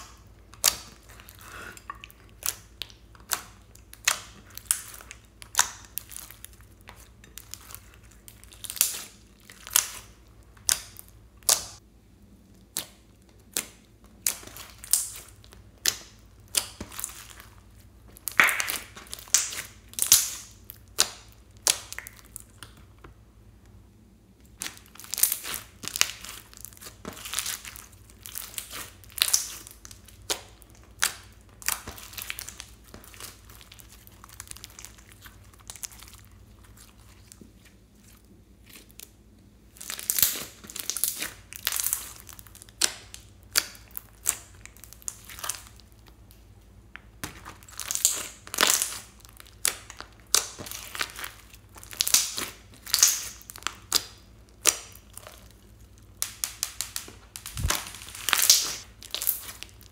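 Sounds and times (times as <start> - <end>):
slime crackling and popping: 0.0 - 11.8, 12.5 - 23.0, 24.4 - 59.9.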